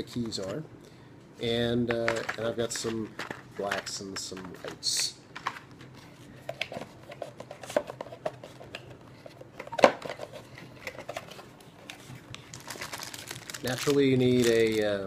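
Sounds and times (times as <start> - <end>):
cardboard and plastic rustling: 2.0 - 15.0.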